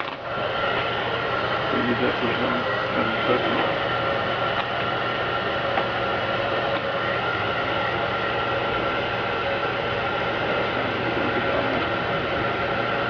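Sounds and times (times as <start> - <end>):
heat gun fan blowing: 0.0 - 13.0.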